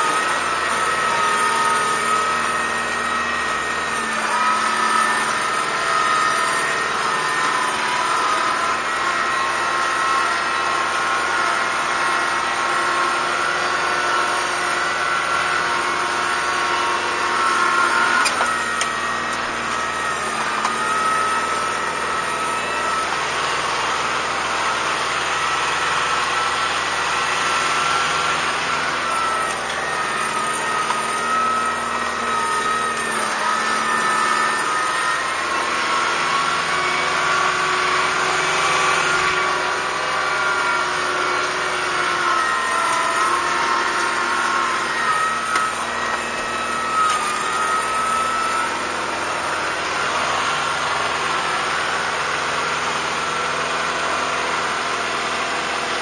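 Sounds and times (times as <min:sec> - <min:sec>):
wavering high whine: 0:00.0 - 0:52.4
tractor diesel engine running: 0:00.0 - 0:56.0.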